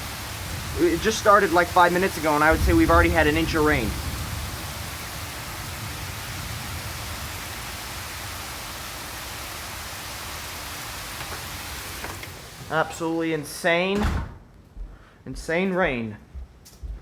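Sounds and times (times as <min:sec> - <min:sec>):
torrential rain: 0:00.0 - 0:13.6.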